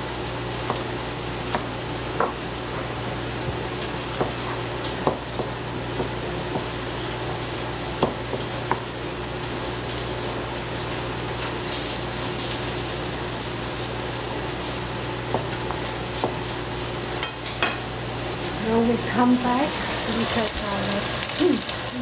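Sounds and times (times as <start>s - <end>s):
food sizzling in a frying pan: 0.0s - 22.0s.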